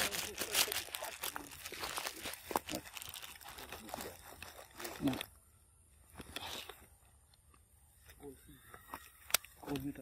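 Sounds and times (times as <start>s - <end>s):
crackly rustling and crunching: 0.0s - 10.0s.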